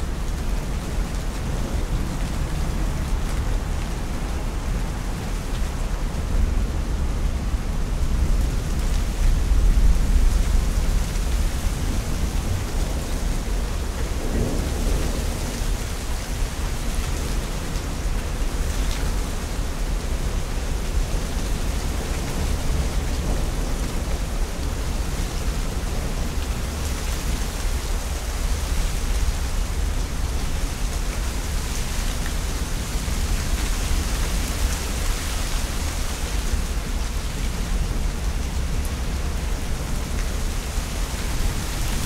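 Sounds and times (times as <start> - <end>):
steady rain: 0.0 - 42.0.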